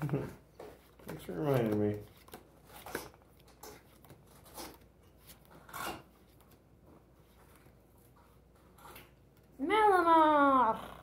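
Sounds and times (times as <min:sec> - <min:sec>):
trading cards rustling: 0:00.0 - 0:09.3.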